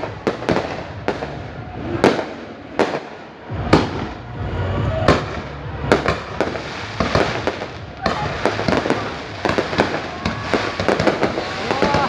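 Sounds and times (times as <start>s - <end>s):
fireworks bangs: 0.0s - 12.0s
low rumbling: 0.0s - 12.0s.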